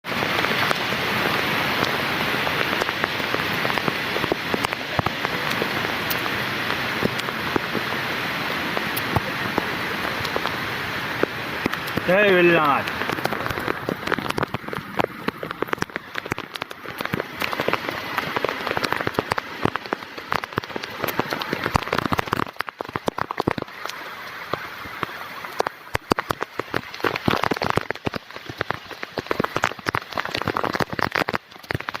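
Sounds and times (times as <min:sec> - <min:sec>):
heavy rain hissing: 0:00.1 - 0:32.0
raindrop hits close by: 0:00.1 - 0:32.0.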